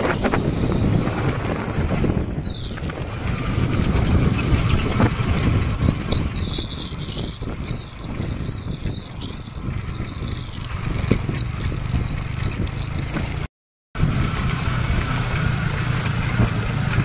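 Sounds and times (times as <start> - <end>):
motorcycle running: 0.0 - 17.0
road noise: 0.0 - 17.0
wind rumbling on microphone: 0.0 - 17.0.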